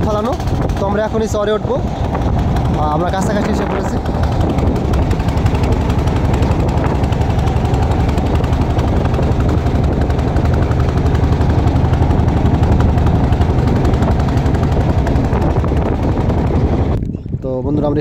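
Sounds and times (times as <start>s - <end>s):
motorboat engine running: 0.0s - 18.0s.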